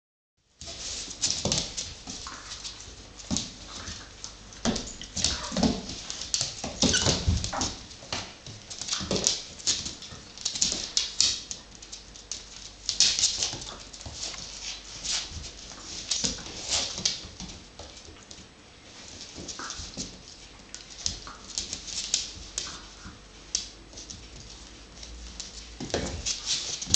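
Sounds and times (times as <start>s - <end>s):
paws scuffling on wooden floor: 0.6s - 26.9s.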